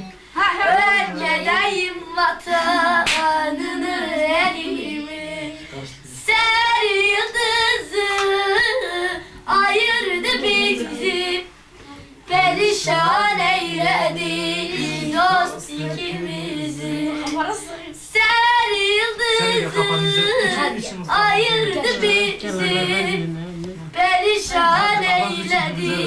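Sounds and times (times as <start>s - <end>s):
child singing unaccompanied: 0.0s - 5.6s, 6.2s - 26.0s.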